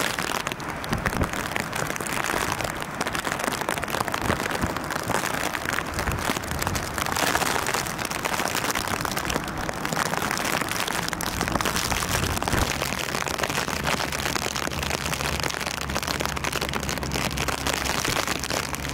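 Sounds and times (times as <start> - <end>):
deep low rumble: 0.0 - 18.9
floodwater running over street: 0.0 - 18.9
heavy rain: 0.0 - 18.9.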